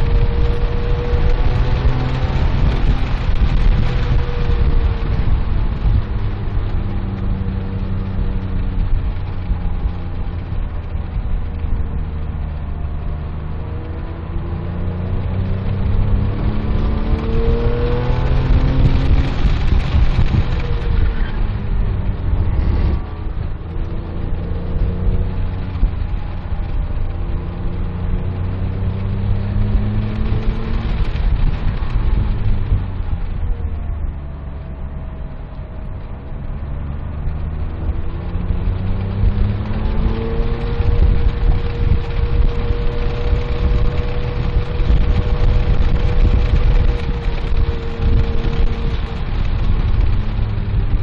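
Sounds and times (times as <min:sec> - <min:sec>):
car engine revving: 0:00.0 - 0:51.0
road and wind rumble: 0:00.0 - 0:51.0.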